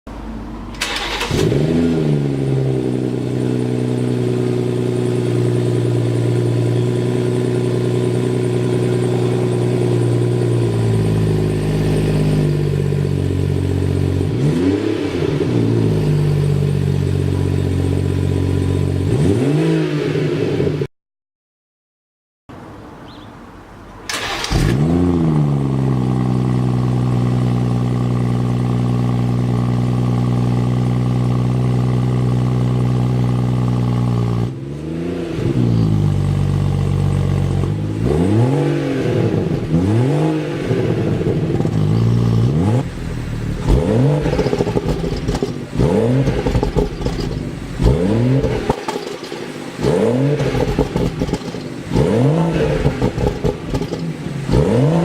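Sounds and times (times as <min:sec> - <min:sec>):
car engine starting and revving: 0:00.7 - 0:20.9, 0:24.0 - 0:55.0.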